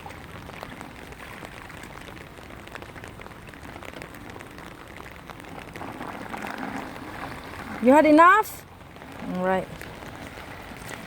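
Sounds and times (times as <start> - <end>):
raindrops ticking on surfaces: 0.0 - 11.0
steady rain falling: 0.0 - 11.0.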